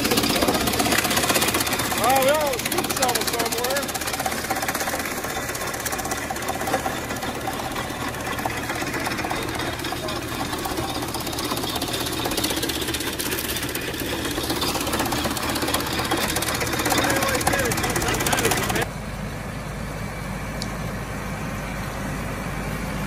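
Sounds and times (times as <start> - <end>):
husking machine clattering: 0.0 - 18.9.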